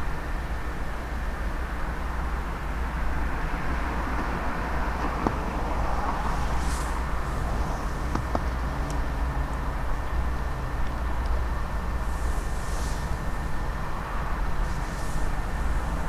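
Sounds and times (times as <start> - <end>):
diesel train rumbling: 0.0 - 16.0.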